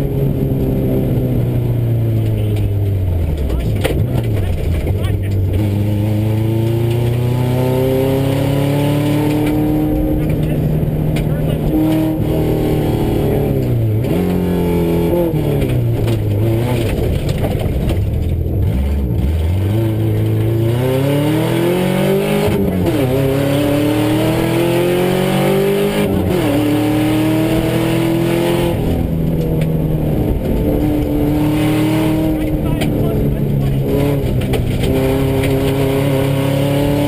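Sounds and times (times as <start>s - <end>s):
gravel and road rumble: 0.0s - 37.0s
rally car engine revving: 0.0s - 37.0s.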